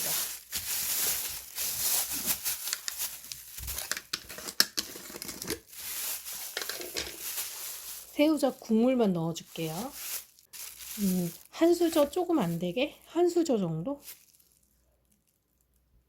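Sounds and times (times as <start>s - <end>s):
plastic packaging crinkling: 0.0s - 15.8s.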